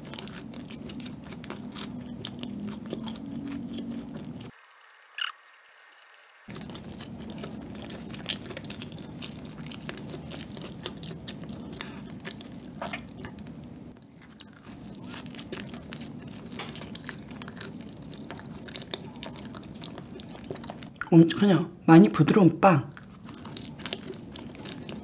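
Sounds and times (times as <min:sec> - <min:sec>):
chewing bread: 0:00.0 - 0:21.2, 0:22.9 - 0:25.0.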